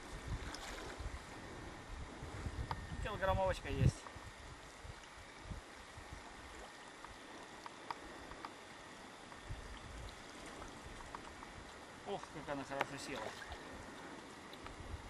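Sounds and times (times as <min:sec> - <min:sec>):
flowing river water: 0:00.0 - 0:01.8, 0:04.1 - 0:15.0
small ticks and low bumps: 0:00.0 - 0:15.0.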